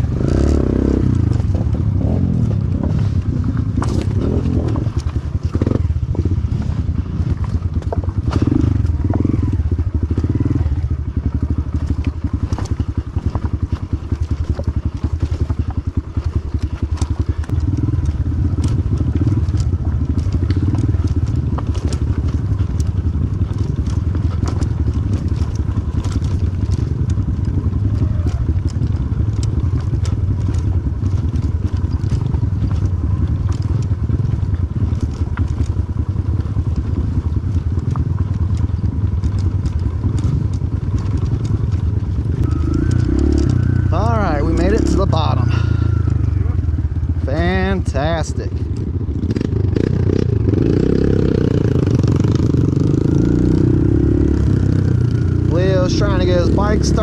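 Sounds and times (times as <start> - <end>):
small motorbike engine running: 0.0 - 57.0.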